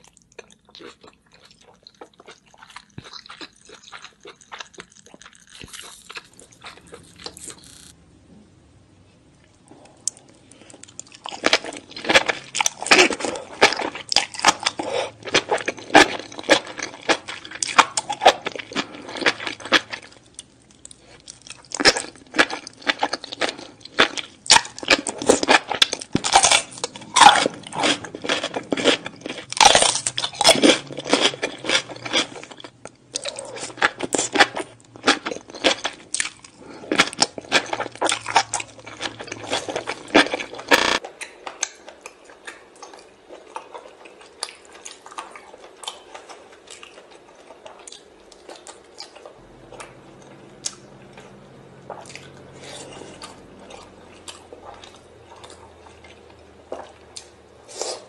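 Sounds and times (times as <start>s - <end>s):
wet crunchy chewing: 0.0s - 8.0s, 10.0s - 58.0s.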